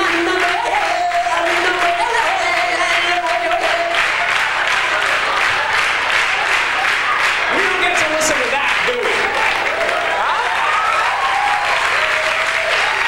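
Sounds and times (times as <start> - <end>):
audience clapping along: 0.0 - 13.0.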